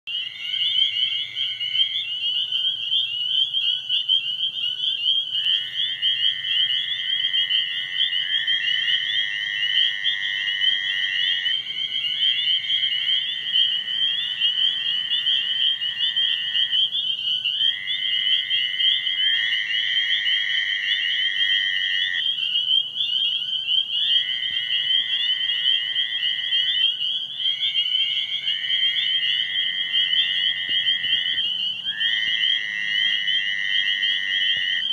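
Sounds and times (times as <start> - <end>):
spring peepers chorus: 0.1 - 34.9
toads trilling: 0.1 - 34.9.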